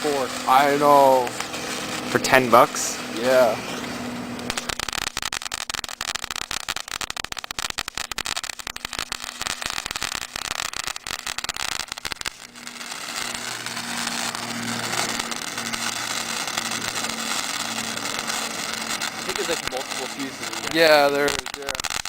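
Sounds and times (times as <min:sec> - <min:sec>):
ground firework crackling: 0:00.0 - 0:22.0.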